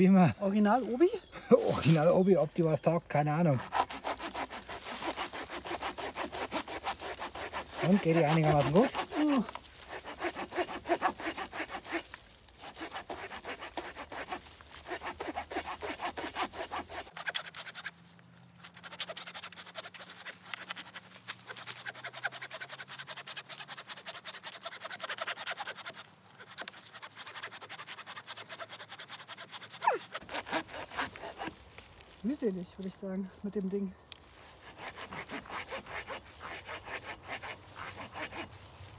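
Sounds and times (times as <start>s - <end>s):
hand saw cutting wood: 3.4s - 18.0s, 18.6s - 32.2s, 34.4s - 38.6s.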